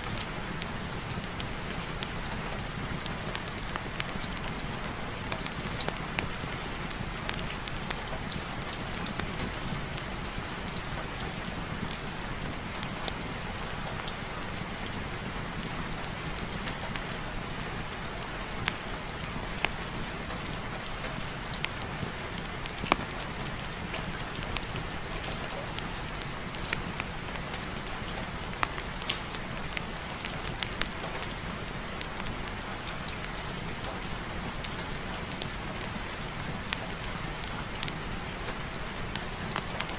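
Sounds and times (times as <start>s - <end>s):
raindrop ticks and pops: 0.0s - 13.2s, 13.9s - 39.9s
steady rain falling: 0.0s - 39.9s.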